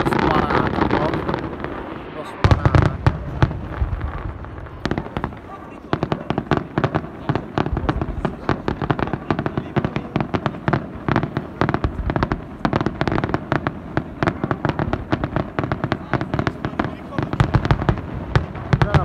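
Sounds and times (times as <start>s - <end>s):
fireworks bursts and bangs: 0.0s - 19.0s.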